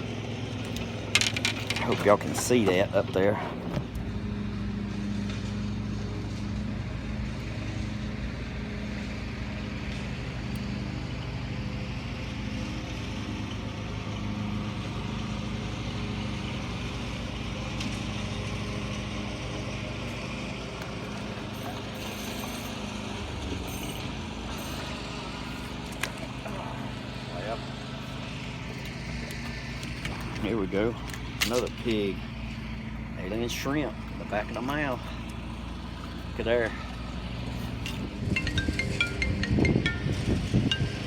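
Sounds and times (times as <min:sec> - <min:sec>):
boat motor humming: 0:00.0 - 0:06.2, 0:13.8 - 0:41.0.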